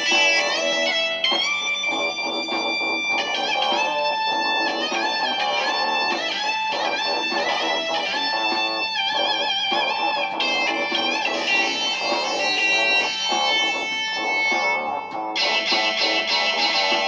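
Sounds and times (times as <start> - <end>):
layered electric guitar loops: 0.0 - 17.0.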